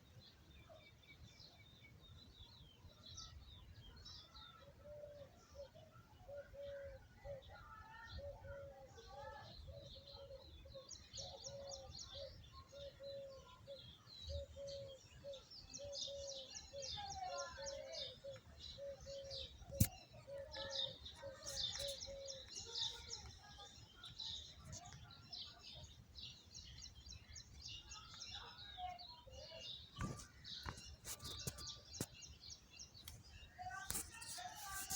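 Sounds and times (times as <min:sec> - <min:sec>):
small birds chirping and twittering: 0:00.0 - 0:34.9.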